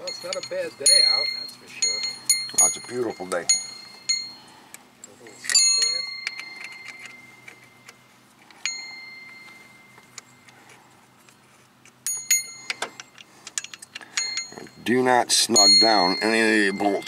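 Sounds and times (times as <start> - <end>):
bright metallic dings: 0.0 - 4.6, 5.2 - 10.6, 12.0 - 17.0.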